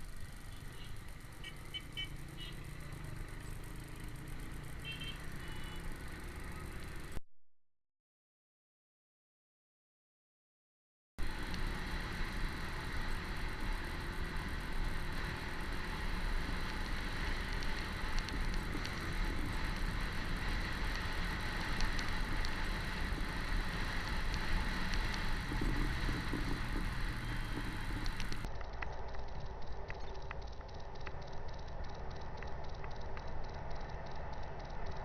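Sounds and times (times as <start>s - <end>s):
motorcycle engine rumble: 0.0s - 7.2s, 11.2s - 35.0s
road and wind noise: 0.0s - 7.2s, 11.2s - 35.0s.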